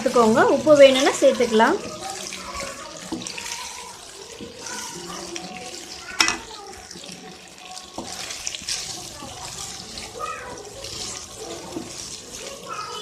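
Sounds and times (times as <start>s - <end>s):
dumplings sizzling in oil: 0.0s - 13.0s.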